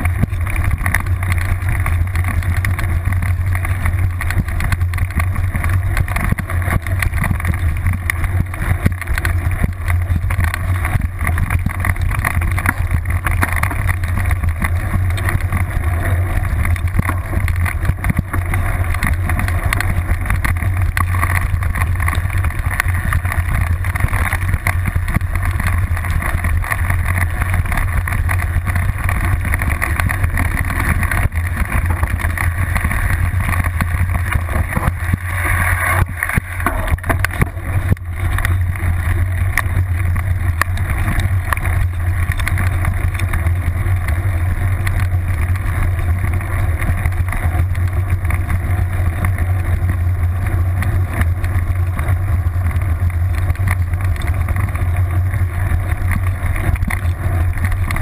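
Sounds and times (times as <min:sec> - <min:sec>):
bike rattling over bumps: 0:00.0 - 0:58.0
wind and frame rumble: 0:00.0 - 0:58.0.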